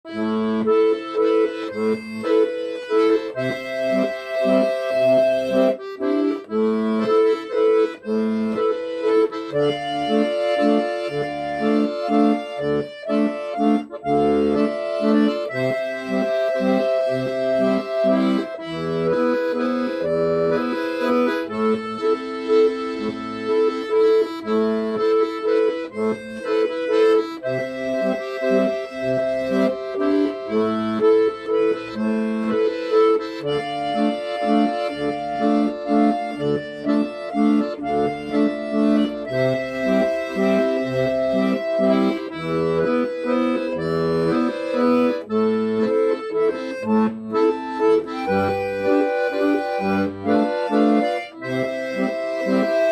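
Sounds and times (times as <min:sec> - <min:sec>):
accordion music: 0:00.0 - 0:52.9.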